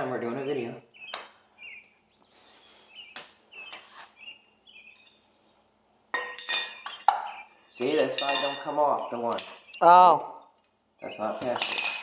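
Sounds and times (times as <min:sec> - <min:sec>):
bird chirping: 0:00.0 - 0:05.8, 0:06.6 - 0:11.6.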